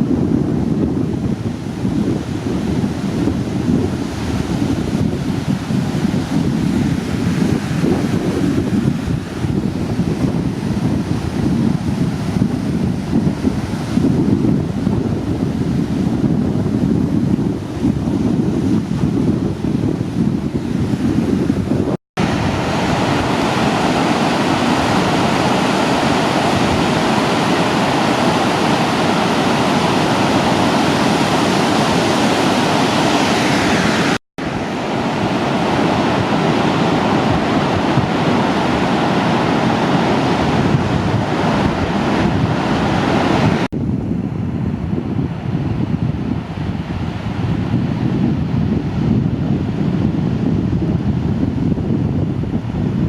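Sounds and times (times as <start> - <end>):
heavy surf breaking: 0.0 - 53.0
wind buffeting microphone: 0.0 - 53.0.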